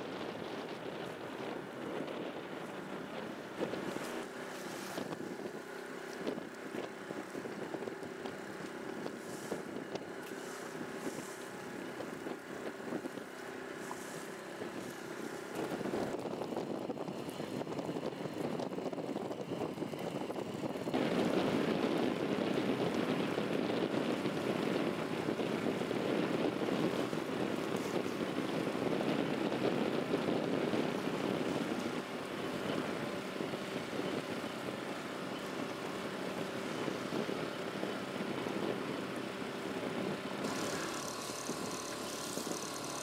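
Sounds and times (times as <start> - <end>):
outboard motor running: 0.0 - 43.0.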